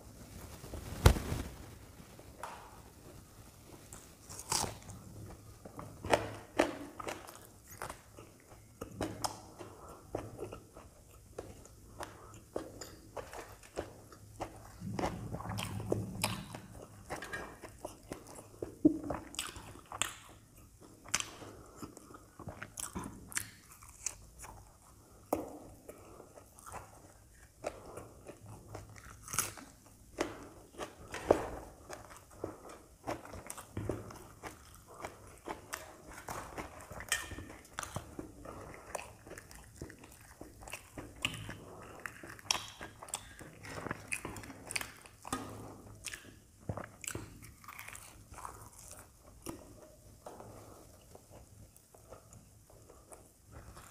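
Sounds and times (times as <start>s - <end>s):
crunchy chewing: 3.7s - 53.9s.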